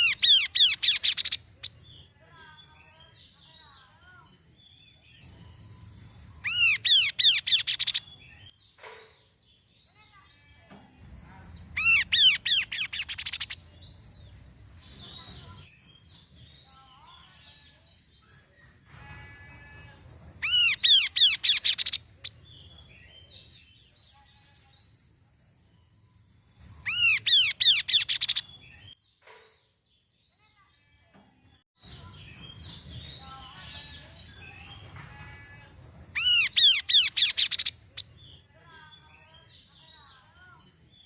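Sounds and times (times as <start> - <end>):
songbird singing ringing notes: 0.0 - 29.1, 31.8 - 41.0
bird chirps: 0.0 - 41.0.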